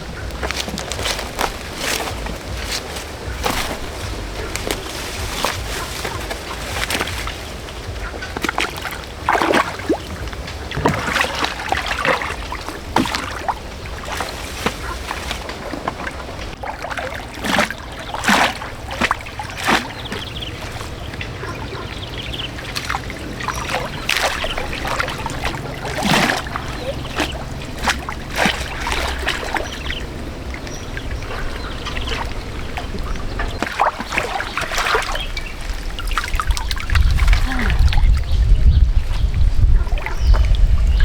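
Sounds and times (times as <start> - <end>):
steady low rumble: 0.0 - 41.0
water splashing and trickling: 0.0 - 41.0.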